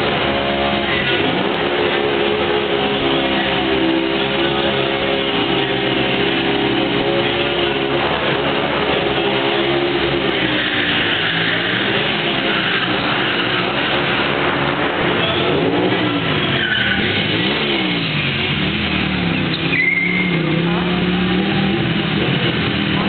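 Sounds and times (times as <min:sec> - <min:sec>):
motorcycle engines running: 0:00.0 - 0:23.0.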